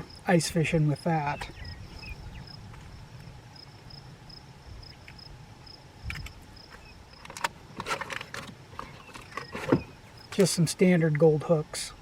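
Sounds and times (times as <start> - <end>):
cricket chirping: 0.0 - 10.6.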